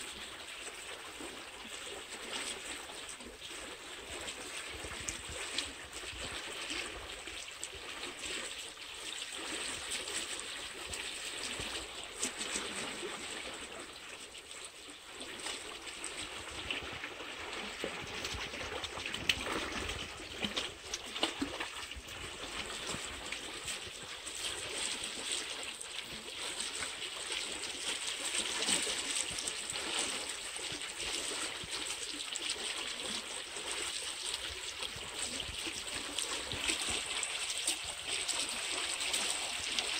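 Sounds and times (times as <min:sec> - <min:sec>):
water flowing over stones: 0:00.0 - 0:39.9.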